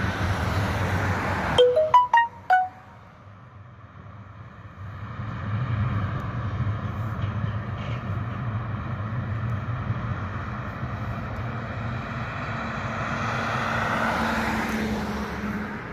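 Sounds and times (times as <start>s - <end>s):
cars on road: 0.0s - 15.9s.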